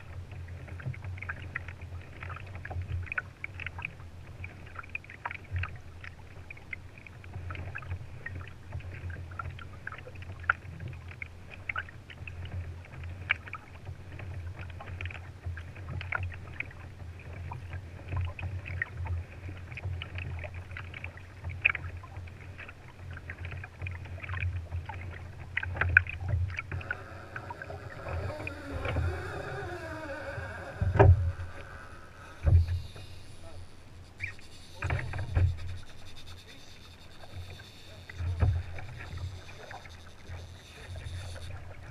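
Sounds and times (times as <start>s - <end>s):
water lapping against a kayak: 0.0s - 41.9s.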